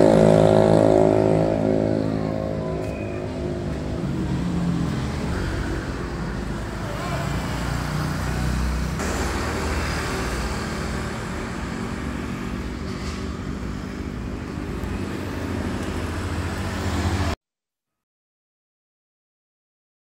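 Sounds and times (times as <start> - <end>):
road noise: 0.0 - 17.4.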